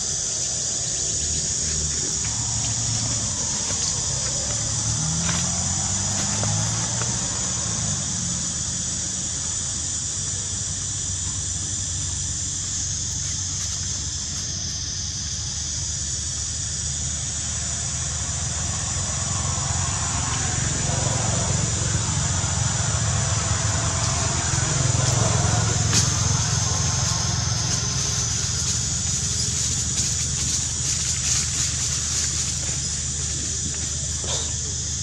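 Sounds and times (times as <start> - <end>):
steady high hiss: 0.0 - 35.0.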